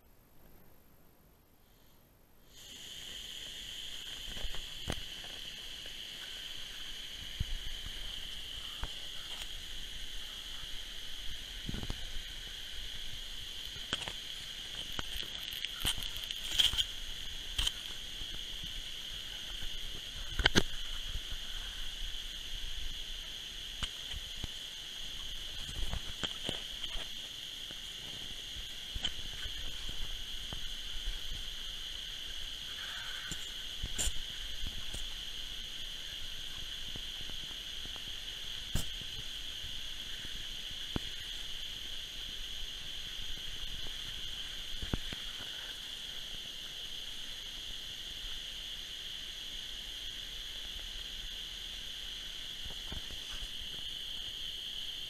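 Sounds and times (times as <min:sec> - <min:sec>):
small water pump whining: 0:02.5 - 0:55.0.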